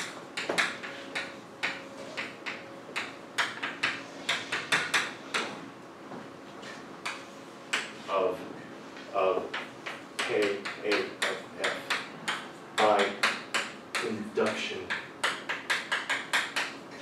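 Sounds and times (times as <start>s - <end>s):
chalk tapping on blackboard: 0.0s - 5.5s, 7.0s - 8.1s, 9.0s - 16.8s.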